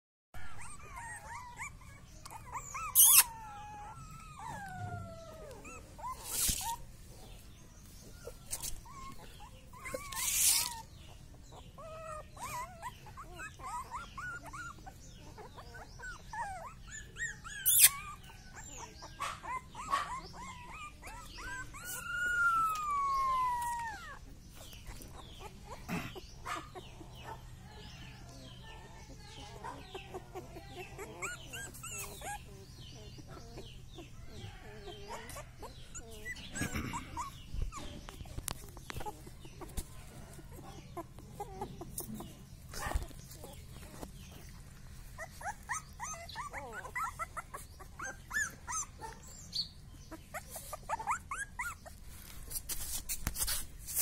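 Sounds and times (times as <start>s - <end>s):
puppies whining and squeaking: 0.4s - 54.0s.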